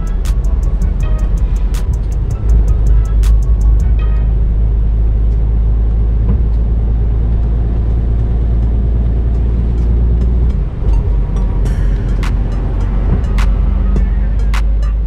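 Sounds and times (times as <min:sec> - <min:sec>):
lorry engine and tyres drone: 0:00.0 - 0:15.0.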